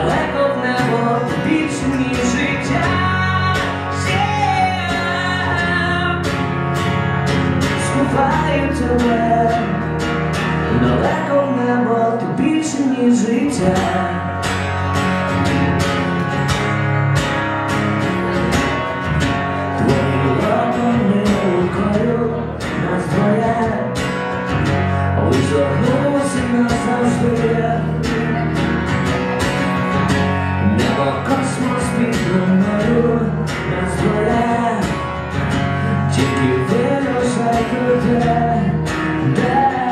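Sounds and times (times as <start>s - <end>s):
man singing: 0.0s - 7.0s, 7.6s - 14.6s, 19.6s - 29.5s, 30.5s - 39.9s
strummed acoustic guitar: 0.0s - 39.9s.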